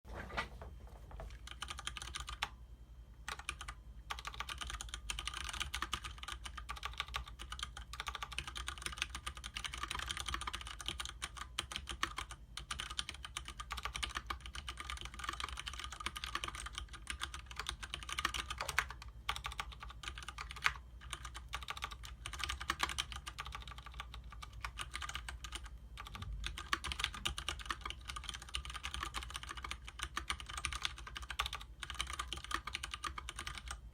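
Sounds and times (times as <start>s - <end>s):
fast mechanical keyboard typing: 1.3s - 2.6s, 3.2s - 33.9s.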